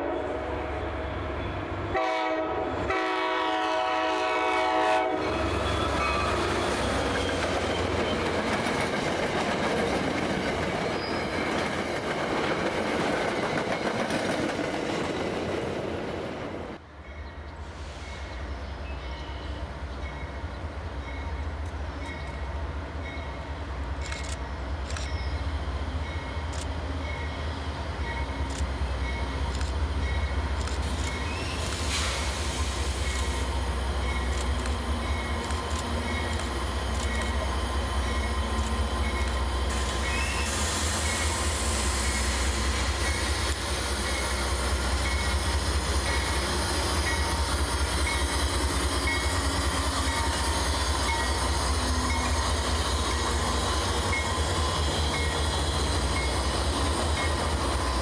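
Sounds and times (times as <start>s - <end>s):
diesel locomotives rumbling past: 0.0s - 58.0s
train wheels clicking on rails: 4.1s - 16.6s, 19.9s - 58.0s.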